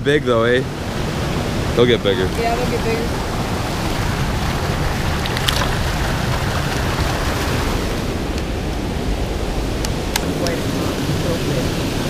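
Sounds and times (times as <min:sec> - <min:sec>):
river water rushing over weir: 0:00.4 - 0:12.0.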